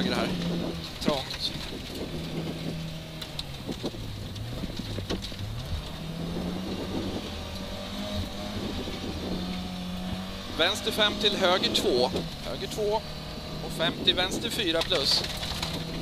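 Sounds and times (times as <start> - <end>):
car engine from inside cabin: 0.0 - 16.0
road noise: 0.0 - 16.0.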